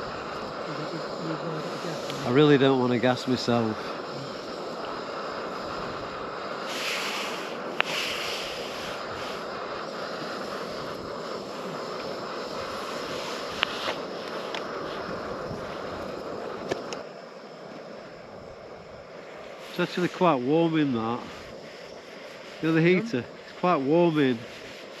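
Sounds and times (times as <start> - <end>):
wind gusting: 0.0 - 24.8
gas stove burning: 0.0 - 25.0.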